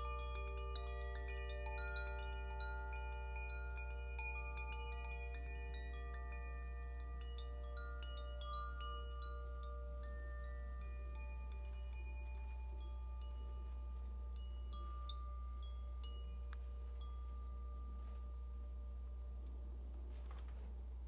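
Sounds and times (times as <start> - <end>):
chime tinkling: 0.0 - 20.0
low hum: 0.0 - 21.0.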